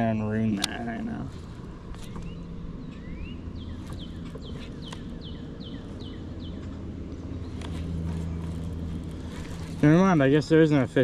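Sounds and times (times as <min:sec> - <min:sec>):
low background hum: 0:00.0 - 0:11.0
songbird singing: 0:00.0 - 0:11.0.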